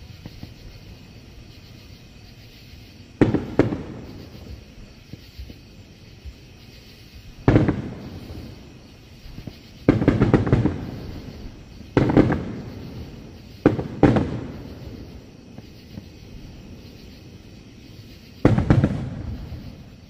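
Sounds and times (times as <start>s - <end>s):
fireworks booming: 0.0s - 20.0s
small crackling fireworks: 0.0s - 20.0s.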